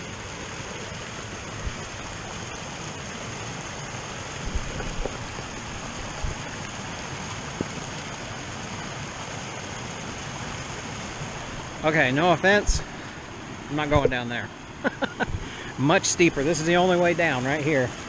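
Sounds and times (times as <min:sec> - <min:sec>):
creek rushing: 0:00.0 - 0:18.0
heavy rain hissing: 0:00.0 - 0:18.0.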